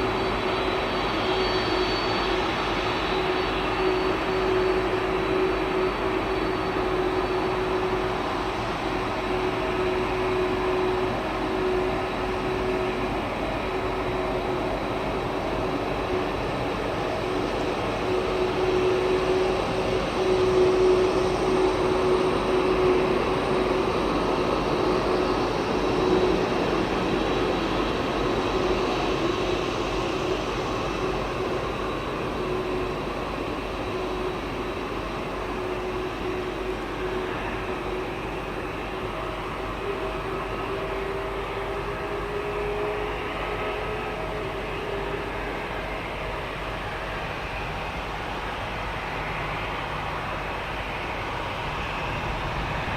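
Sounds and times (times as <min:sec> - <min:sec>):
jet engines roaring during takeoff: 0:00.0 - 0:52.9.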